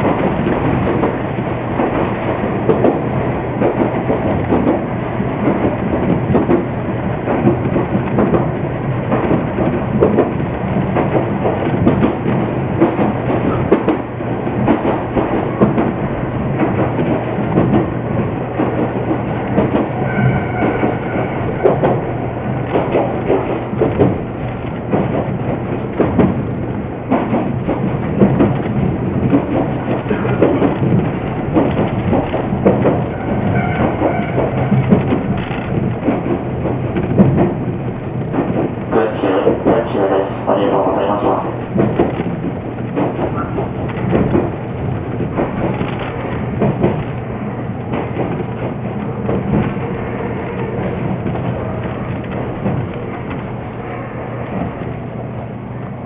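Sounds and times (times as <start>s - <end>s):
wheel clacks: 0.0s - 55.1s
train wheels rumbling on rails: 0.0s - 56.0s.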